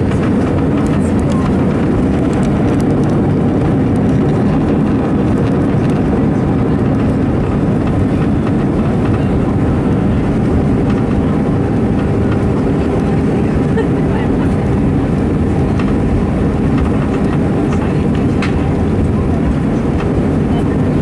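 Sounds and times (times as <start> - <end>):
loud rumble inside airplane cabin: 0.0 - 21.0.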